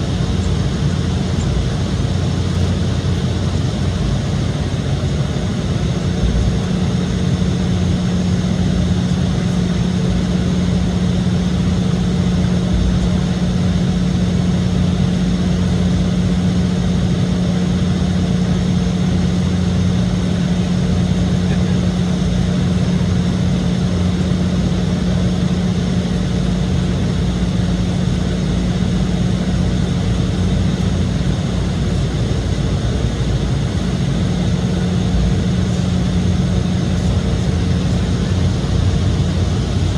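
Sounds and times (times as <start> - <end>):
jet cabin engine rush and hum: 0.0 - 39.9.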